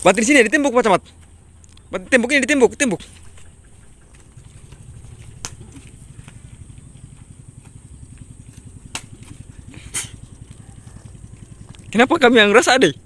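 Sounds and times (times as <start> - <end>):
small engine puttering: 1.0 - 13.0.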